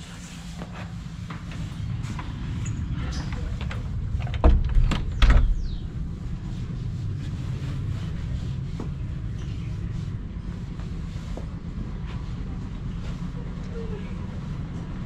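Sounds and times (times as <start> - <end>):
wind rumble: 1.2 - 15.0.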